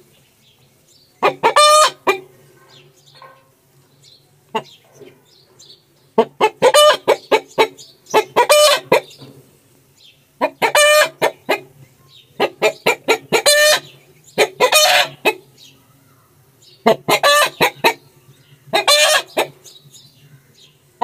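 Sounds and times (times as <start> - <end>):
chickens cackling: 1.2 - 21.0.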